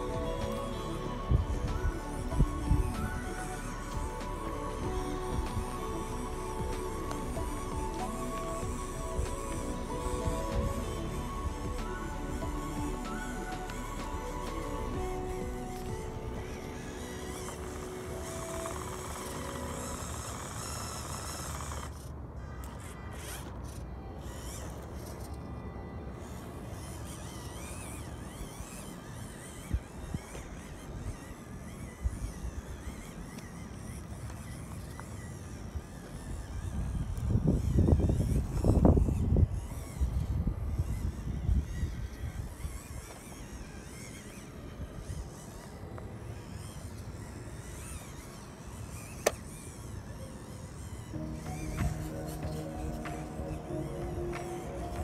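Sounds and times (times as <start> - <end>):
wind on microphone: 0.0 - 21.8, 26.1 - 49.9, 50.7 - 55.0
small electric motor whine: 0.0 - 55.0.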